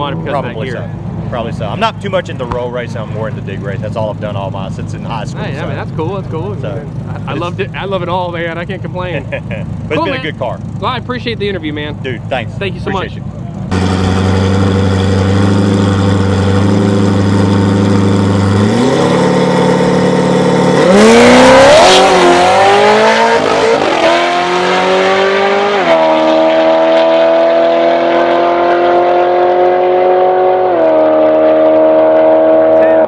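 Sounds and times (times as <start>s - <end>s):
supercharged engine accelerating: 0.0s - 33.0s.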